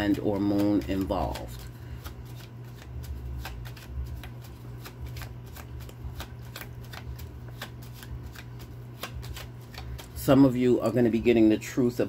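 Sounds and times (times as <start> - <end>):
cards being shuffled: 0.0 - 11.4
low steady hum: 0.0 - 12.0.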